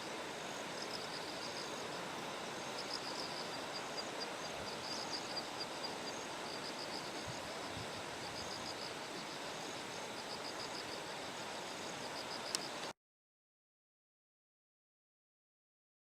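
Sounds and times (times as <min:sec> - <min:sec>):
crickets chirping: 0:00.0 - 0:12.9.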